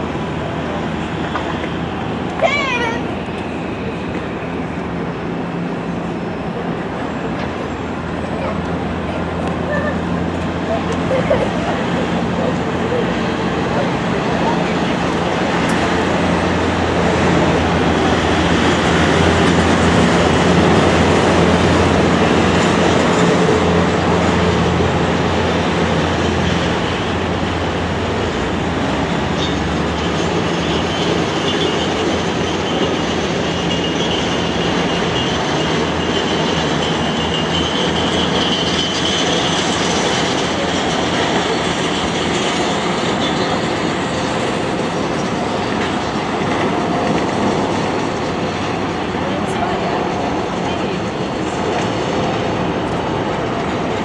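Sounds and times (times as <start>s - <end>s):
moving vehicle rumble and hiss: 0.0s - 54.0s.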